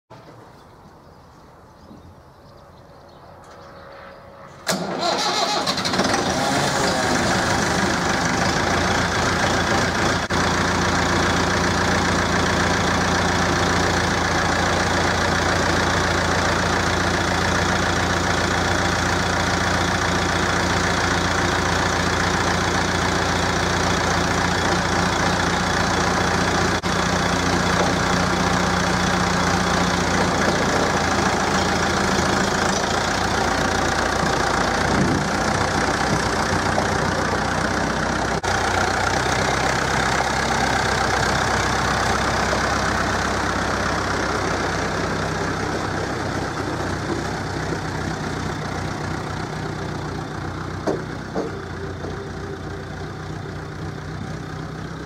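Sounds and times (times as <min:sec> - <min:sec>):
tractor engine idling: 0:04.6 - 0:55.0.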